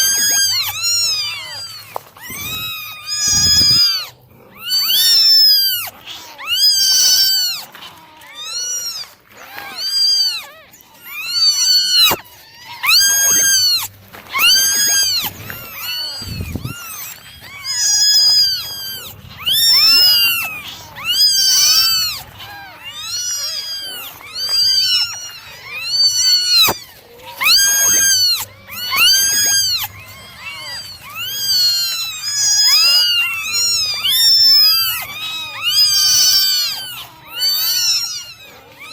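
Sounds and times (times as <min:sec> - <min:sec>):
kittens meowing: 0:00.0 - 0:38.9.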